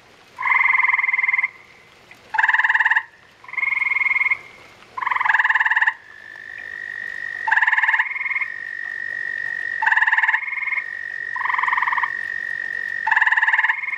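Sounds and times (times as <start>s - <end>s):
tree frogs trilling: 0.4s - 13.9s.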